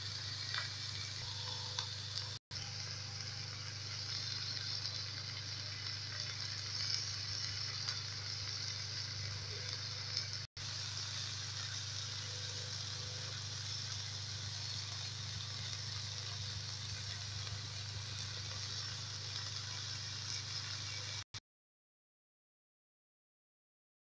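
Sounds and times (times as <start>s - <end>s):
coconut frying in a pan: 0.0s - 21.4s
onions sizzling in a pan: 0.0s - 21.4s.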